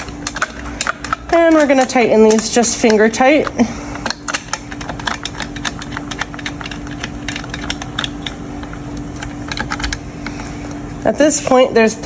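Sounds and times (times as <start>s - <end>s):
plastic cover clicks and rattles: 0.0s - 10.0s
steady low hum: 0.0s - 12.0s.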